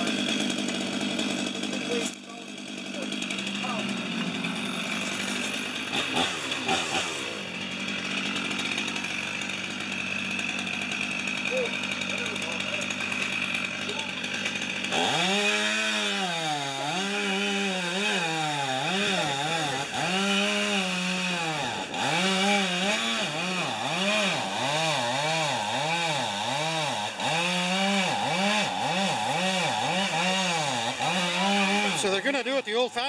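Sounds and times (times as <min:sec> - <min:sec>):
chainsaw cutting: 0:00.0 - 0:33.0.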